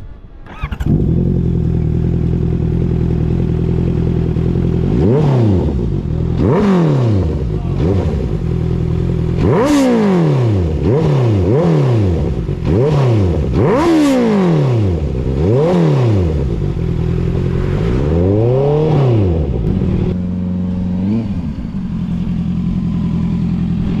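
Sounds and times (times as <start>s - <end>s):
motorcycle engine revving: 0.4s - 24.0s.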